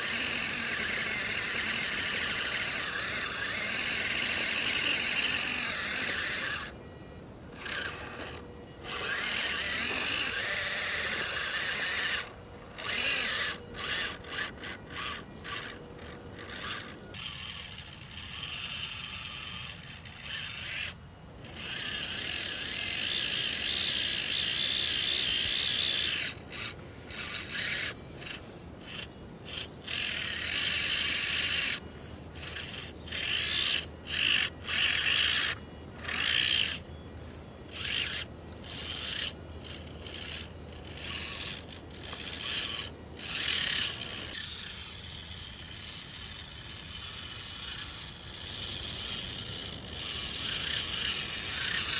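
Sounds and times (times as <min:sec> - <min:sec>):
toy truck motor whining: 0:00.0 - 0:51.9.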